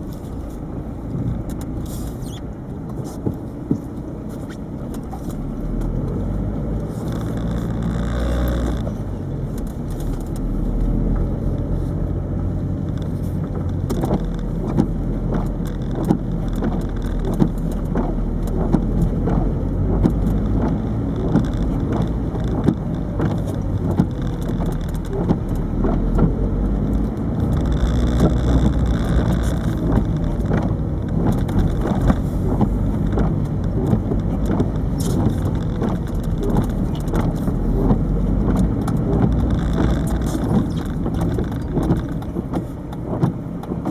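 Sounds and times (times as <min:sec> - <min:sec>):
camera rattling against dashboard: 0:00.0 - 0:43.9
car engine and road noise: 0:00.0 - 0:43.9.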